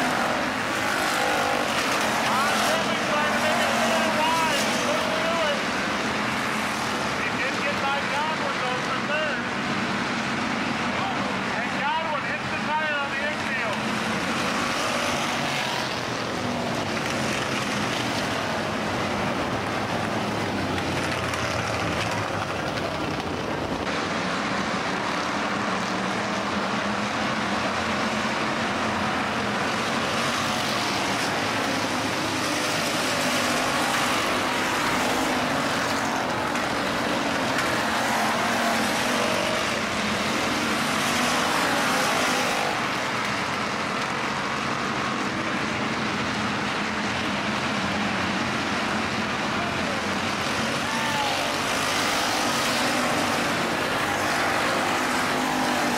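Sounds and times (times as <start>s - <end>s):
race car engines droning: 0.0s - 55.9s.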